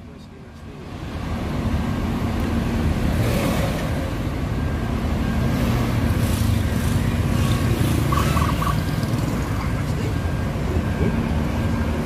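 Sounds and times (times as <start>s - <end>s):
diesel coach engine drone: 0.0s - 12.0s
tyre and road noise: 0.0s - 12.0s.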